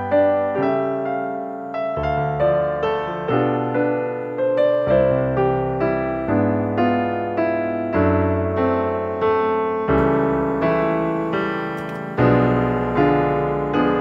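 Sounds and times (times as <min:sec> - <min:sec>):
gentle electric piano music: 0:00.0 - 0:14.0.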